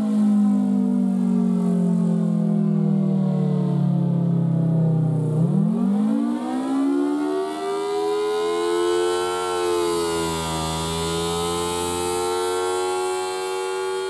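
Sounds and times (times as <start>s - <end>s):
siren rising from low growl: 0.0s - 14.0s.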